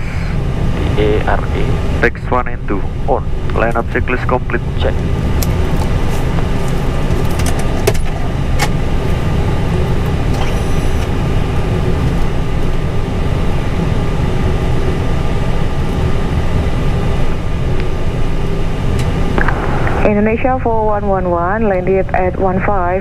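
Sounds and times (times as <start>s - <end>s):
aircraft engines idling: 0.0s - 23.0s.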